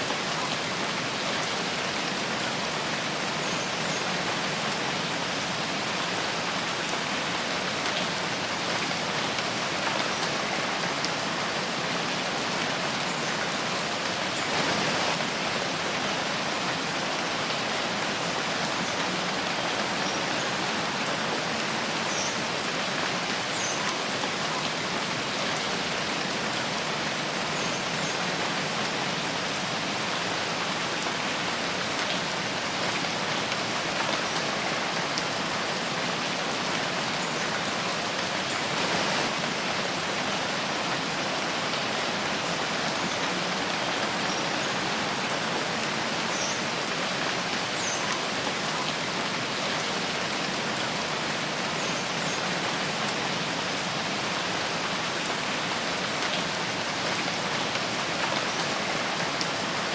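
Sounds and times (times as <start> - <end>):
steady rain in forest: 0.0 - 59.9.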